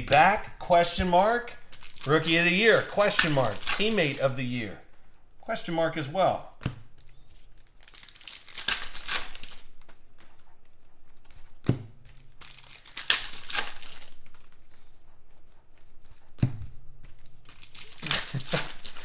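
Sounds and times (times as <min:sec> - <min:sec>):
trading cards rustling: 0:00.0 - 0:06.1, 0:06.9 - 0:16.2, 0:17.0 - 0:19.0.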